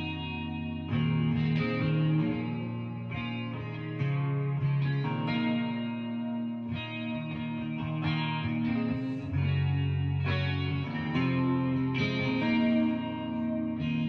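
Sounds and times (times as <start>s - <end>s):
guitar chords: 0.0s - 14.0s
steady bass: 0.0s - 14.0s.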